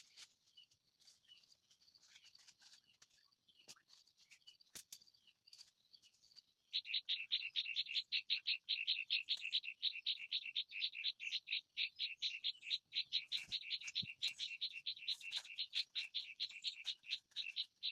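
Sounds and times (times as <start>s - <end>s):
faint chirping: 0.1s - 17.9s.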